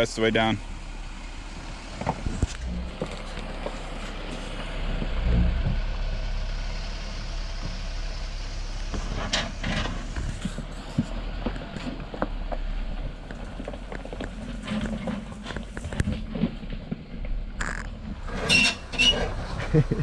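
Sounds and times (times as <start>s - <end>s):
car engine running low: 0.0s - 20.0s.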